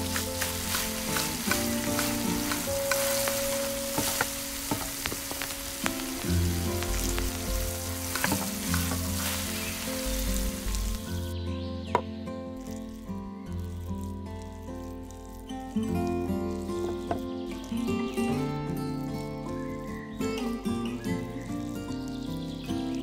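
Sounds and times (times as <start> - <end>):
food sizzling in hot oil: 0.0 - 11.4, 12.5 - 23.0
oil crackling and popping: 0.0 - 23.0.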